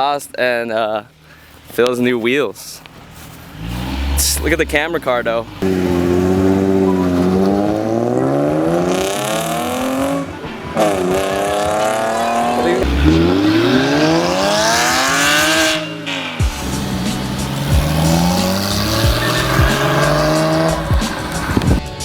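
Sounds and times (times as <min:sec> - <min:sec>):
car engine accelerating hard: 0:03.2 - 0:21.8.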